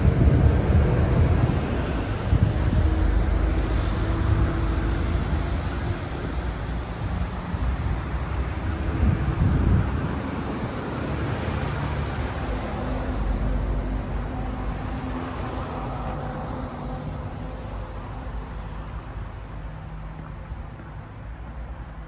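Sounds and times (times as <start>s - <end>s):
road traffic passing: 0.0s - 22.0s
wind buffeting microphone: 0.0s - 22.0s.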